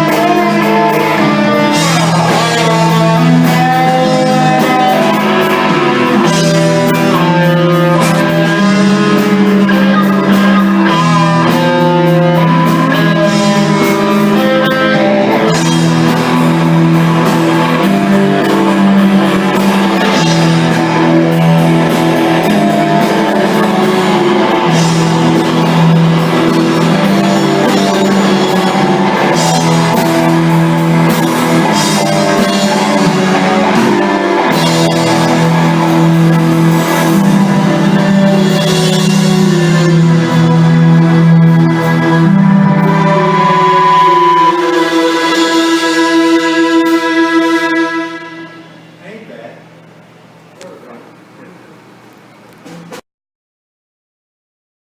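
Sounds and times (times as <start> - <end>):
electric guitar: 0.0 - 49.0
keyboard: 0.0 - 49.5
drums: 0.0 - 53.0.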